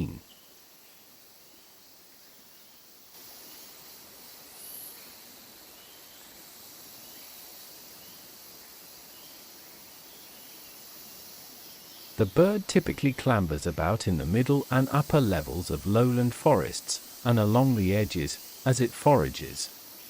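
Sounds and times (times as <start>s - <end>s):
shrill insect hiss: 0.1s - 20.0s.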